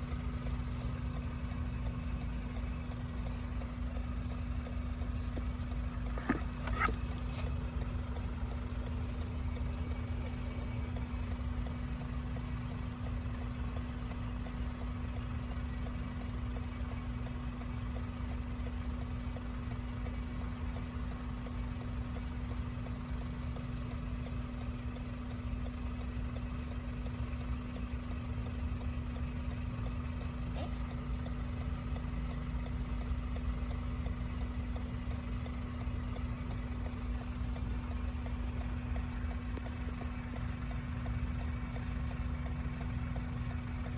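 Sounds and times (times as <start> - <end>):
engine idling rumble: 0.0 - 43.9.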